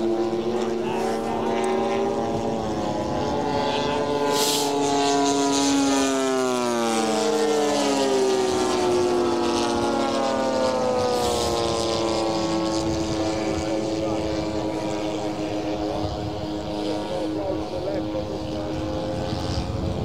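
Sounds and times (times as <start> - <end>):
model plane propellers droning: 0.0 - 20.0.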